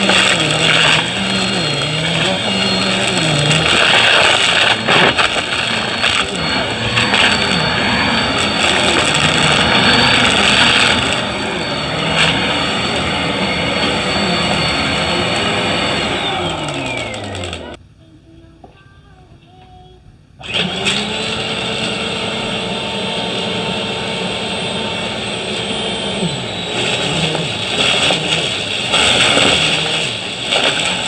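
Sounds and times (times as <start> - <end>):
vacuum cleaner running: 0.0 - 17.8, 20.4 - 31.0.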